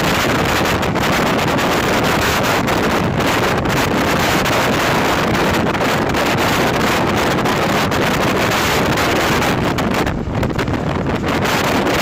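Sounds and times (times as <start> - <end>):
train running noise: 0.0 - 12.0
wind buffeting microphone: 0.0 - 12.0.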